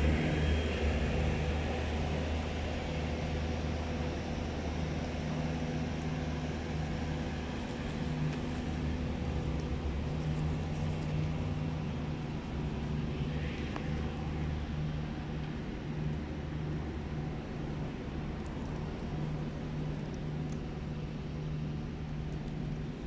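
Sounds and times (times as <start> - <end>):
low engine rumble: 0.0 - 23.0.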